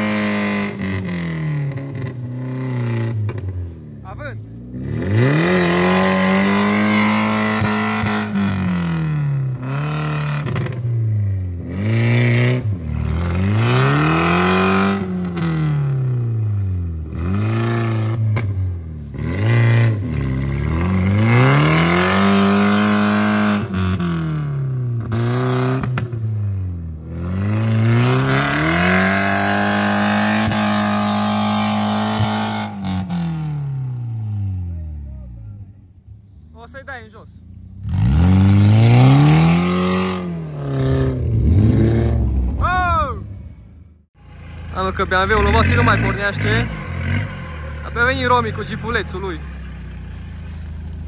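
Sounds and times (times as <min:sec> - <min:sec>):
car engine revving hard: 0:00.0 - 0:03.5, 0:04.7 - 0:11.0, 0:11.6 - 0:26.4, 0:27.0 - 0:34.4, 0:37.8 - 0:42.6, 0:44.8 - 0:51.0.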